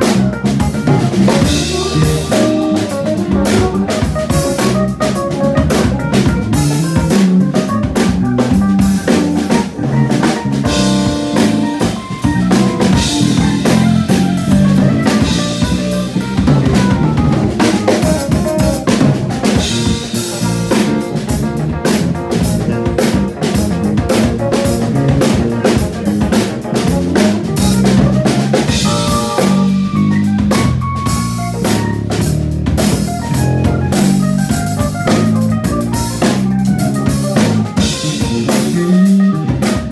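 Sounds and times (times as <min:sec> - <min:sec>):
bass line: 0:00.0 - 0:39.9
drum kit playing funk: 0:00.0 - 0:39.9
electric keyboard playing: 0:00.0 - 0:39.9.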